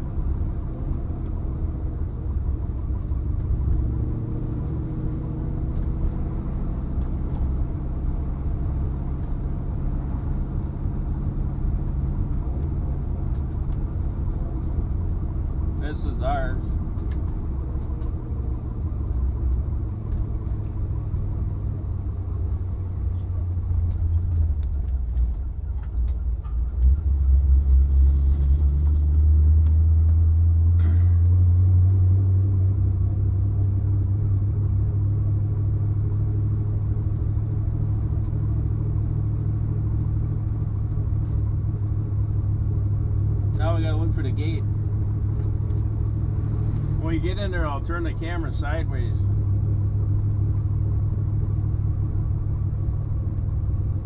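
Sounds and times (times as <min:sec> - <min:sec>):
low car engine rumble: 0:00.0 - 0:54.0.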